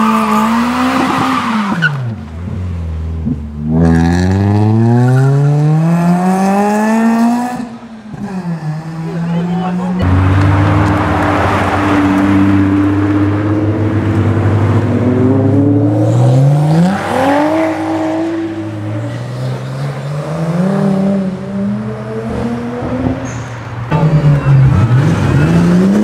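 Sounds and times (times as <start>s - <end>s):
car engines accelerating: 0.0s - 26.0s.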